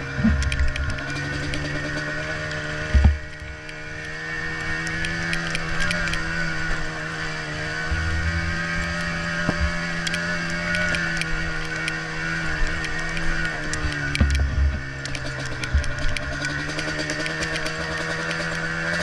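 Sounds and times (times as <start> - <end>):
two-stroke atv engine running: 0.0 - 19.0.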